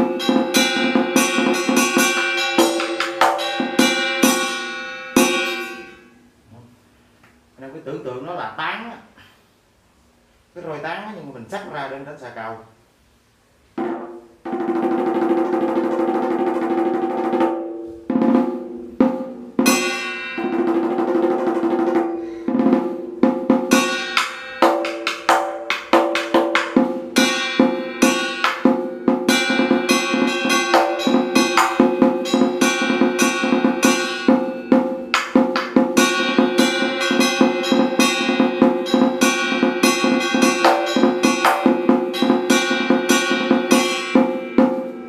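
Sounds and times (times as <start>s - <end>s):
drum played with sticks: 0.0s - 6.0s, 13.8s - 45.0s.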